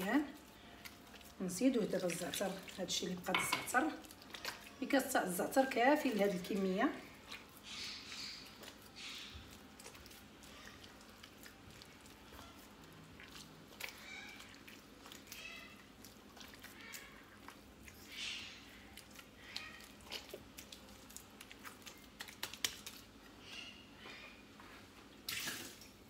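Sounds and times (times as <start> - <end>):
butter squishing under hands: 0.0 - 26.0.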